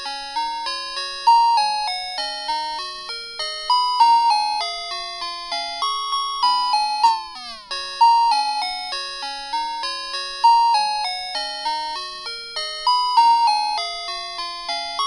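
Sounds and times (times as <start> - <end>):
chime-like melody: 0.0 - 15.0.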